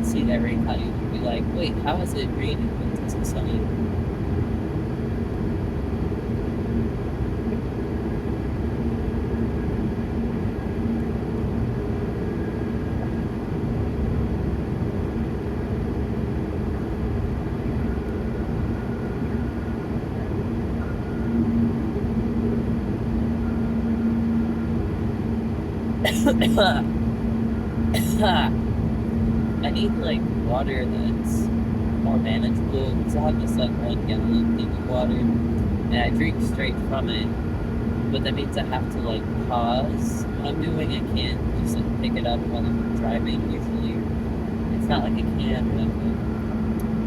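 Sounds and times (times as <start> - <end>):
car cabin road rumble: 0.0 - 47.0
car engine hum: 0.0 - 47.0.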